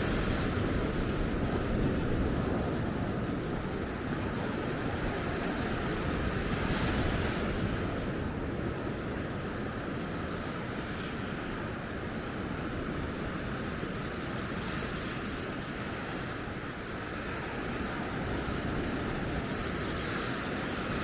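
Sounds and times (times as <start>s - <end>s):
sea surf washing onto beach: 0.0s - 21.0s
wind buffeting microphone: 0.0s - 21.0s.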